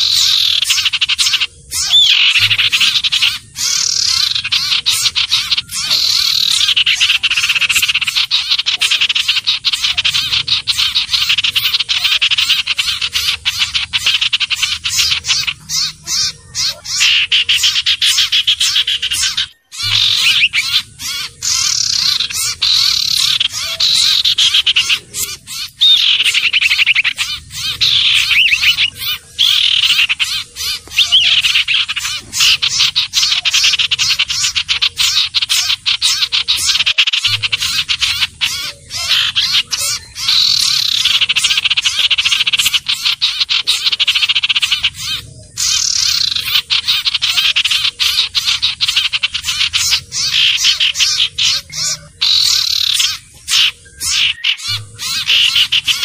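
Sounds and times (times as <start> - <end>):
bird calls trilling chatter: 0.0 - 56.0.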